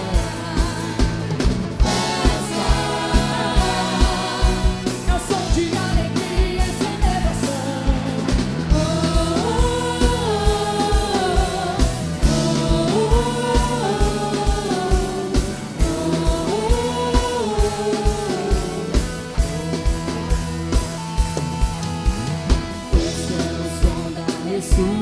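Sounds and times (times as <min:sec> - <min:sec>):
gospel band music: 0:00.0 - 0:25.0.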